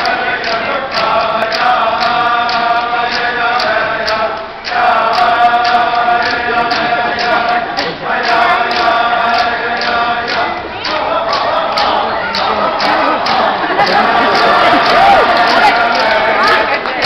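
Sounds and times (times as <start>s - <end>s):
chorus singing in unison: 0.0s - 17.0s.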